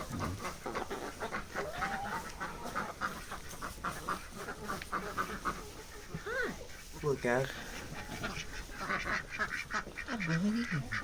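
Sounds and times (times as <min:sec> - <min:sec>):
poultry calling: 0:00.0 - 0:11.0.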